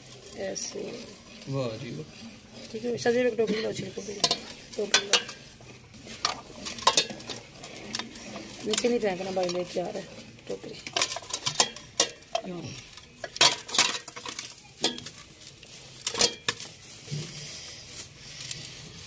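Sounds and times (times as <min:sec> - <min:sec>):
metal citrus squeezer clanking: 0:00.0 - 0:15.4.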